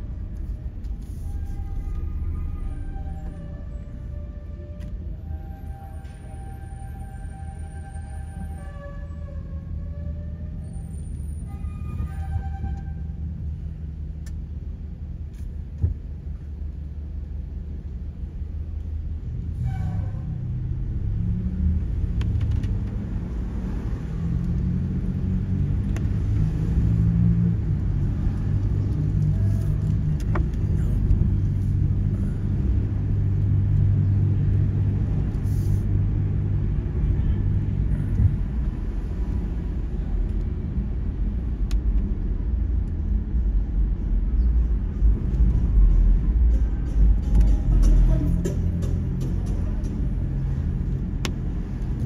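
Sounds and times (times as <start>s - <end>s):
engine hum: 0.0s - 52.0s
motor vehicle rumble: 0.0s - 52.0s.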